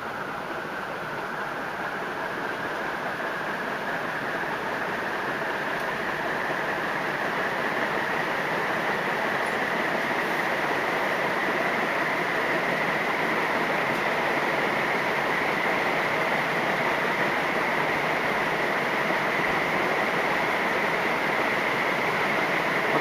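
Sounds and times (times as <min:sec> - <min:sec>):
ceiling fan rush of air: 0:00.0 - 0:23.0.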